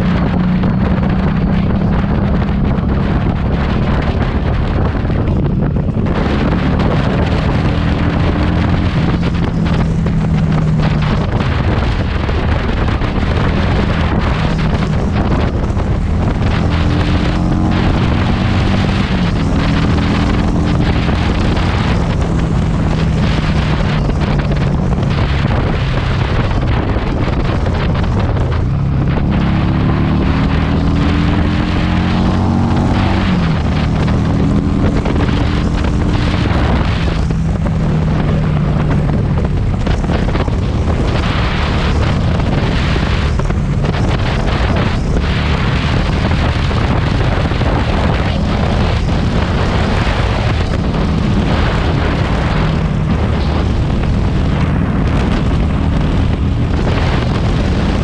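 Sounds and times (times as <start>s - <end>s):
motorcycle engine revving: 0.0s - 58.0s
wind buffeting microphone: 0.0s - 58.0s.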